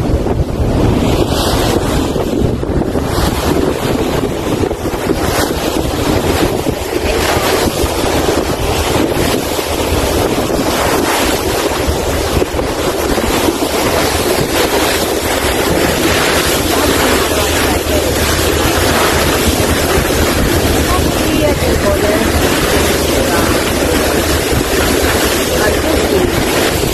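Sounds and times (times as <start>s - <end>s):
boat engine hum: 0.0s - 26.9s
water rushing: 0.0s - 26.9s
wind buffeting microphone: 0.0s - 26.9s.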